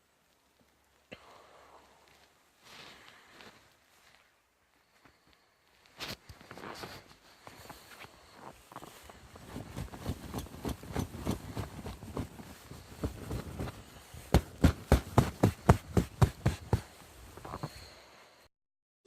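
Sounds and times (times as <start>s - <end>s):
footsteps in snow: 2.0s - 17.8s.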